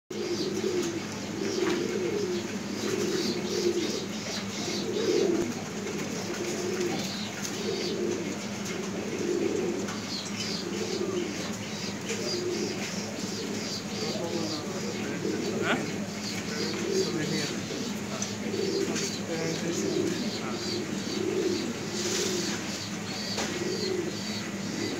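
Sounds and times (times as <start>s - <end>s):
pigeons cooing: 0.1s - 24.9s.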